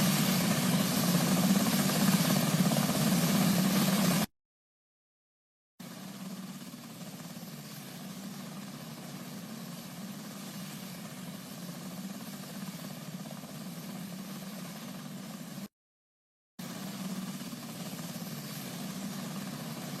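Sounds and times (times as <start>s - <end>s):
helicopter rotor drone: 0.0s - 4.3s, 5.8s - 15.7s, 16.6s - 20.0s.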